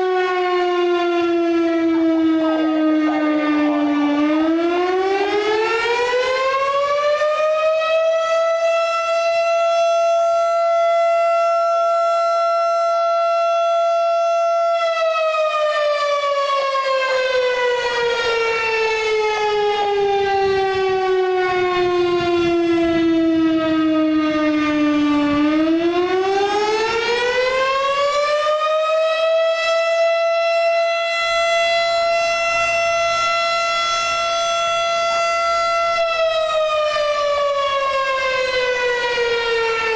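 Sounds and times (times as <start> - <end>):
firehouse siren wailing: 0.0 - 39.9.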